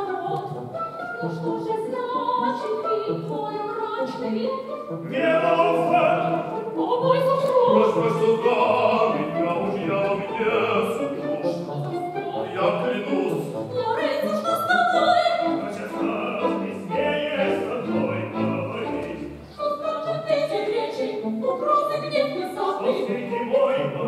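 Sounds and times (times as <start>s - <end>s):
opera singers: 0.0s - 24.0s
orchestra playing: 0.1s - 24.0s.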